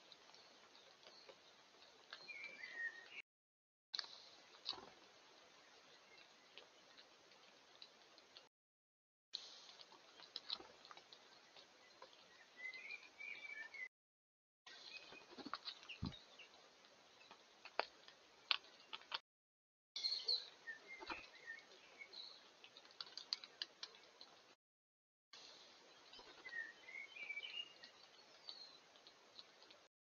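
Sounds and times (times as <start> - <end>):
small birds chirping: 0.0 - 3.2, 4.0 - 8.5, 9.4 - 13.9, 14.7 - 19.2, 20.0 - 24.6, 25.4 - 29.9.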